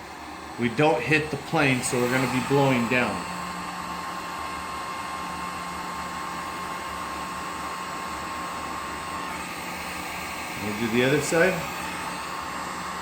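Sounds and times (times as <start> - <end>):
heat gun blowing: 0.1 - 4.3, 6.5 - 13.0.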